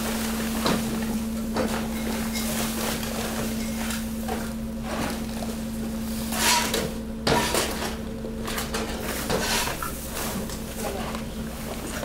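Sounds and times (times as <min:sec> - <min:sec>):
garbage rustling and clattering: 0:00.0 - 0:12.0
machine hum: 0:00.0 - 0:12.0.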